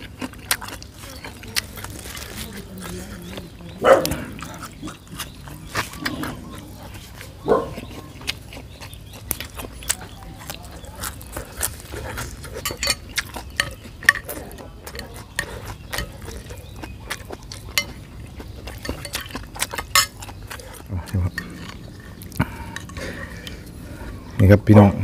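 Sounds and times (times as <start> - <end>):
wet slurping and chewing: 0.0 - 24.3.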